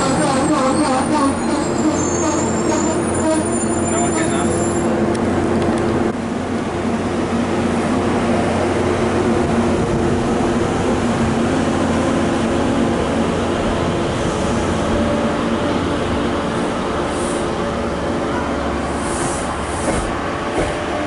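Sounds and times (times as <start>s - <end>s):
train coaches rumbling past: 0.0s - 21.0s.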